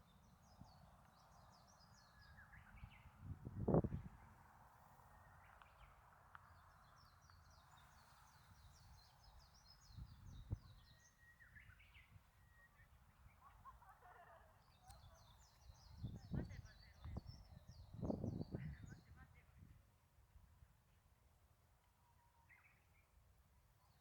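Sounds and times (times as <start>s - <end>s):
faint birdsong chirps: 0.0s - 19.8s, 20.7s - 24.0s.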